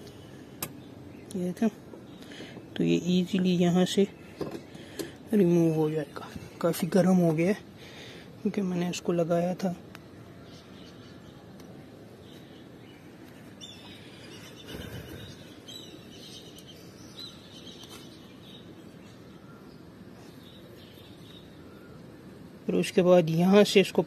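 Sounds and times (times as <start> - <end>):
faint outdoor background noise: 0.0 - 24.0.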